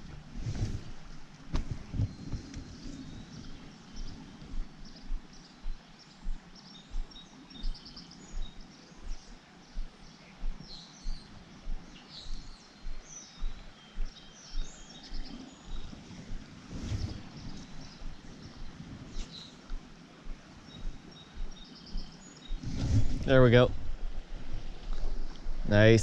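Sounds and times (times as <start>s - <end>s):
soft low thumps: 0.0s - 26.0s
songbirds chirping and trilling: 0.0s - 26.0s.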